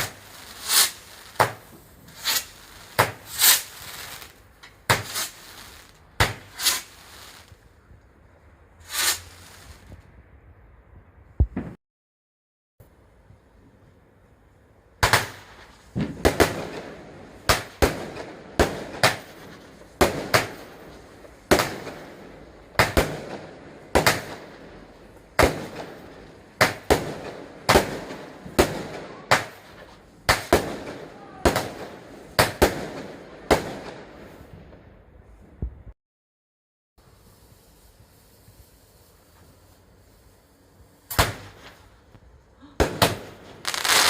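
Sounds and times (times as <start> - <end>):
fireworks bangs: 0.0 - 7.6, 8.8 - 10.0, 11.4 - 11.8, 15.0 - 34.9, 37.0 - 44.0.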